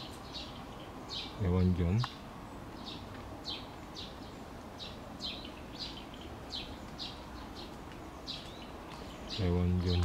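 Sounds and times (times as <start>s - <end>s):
songbird chirping: 0.0s - 10.0s.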